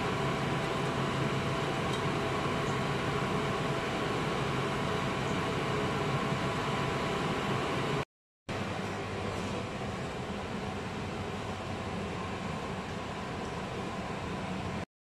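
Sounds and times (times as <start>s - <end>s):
machine hum and hiss: 0.0s - 14.9s.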